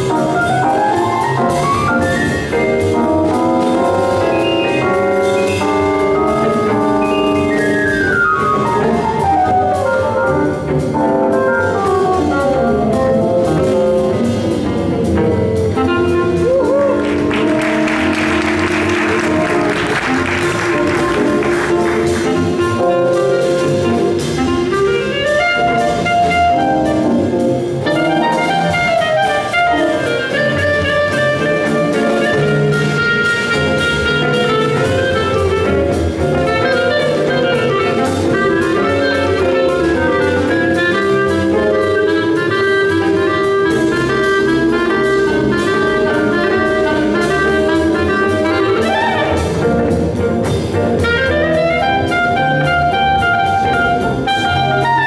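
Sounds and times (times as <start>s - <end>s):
clarinet melody: 0.0s - 55.0s
gypsy jazz band playing: 0.0s - 55.0s.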